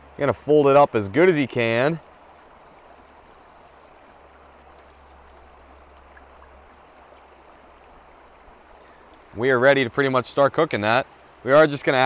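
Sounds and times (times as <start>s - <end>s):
river water flowing over rocks: 0.0s - 12.0s.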